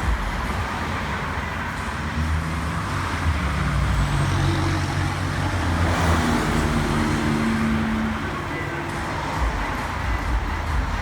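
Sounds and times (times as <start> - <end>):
road noise rush: 0.0 - 11.0
vehicle engine running: 0.0 - 11.0.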